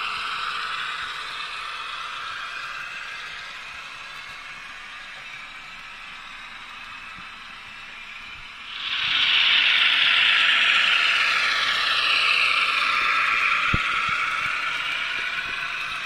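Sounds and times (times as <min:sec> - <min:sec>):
model train motor whir: 0:00.0 - 0:16.0.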